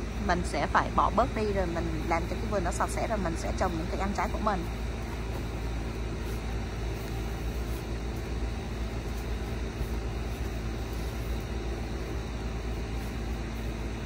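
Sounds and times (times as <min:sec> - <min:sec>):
low rumbling noise with hiss: 0:00.0 - 0:14.0.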